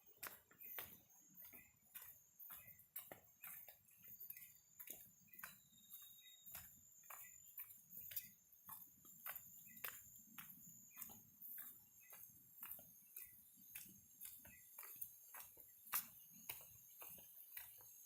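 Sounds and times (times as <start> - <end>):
footsteps on forest trail: 0.0 - 18.0.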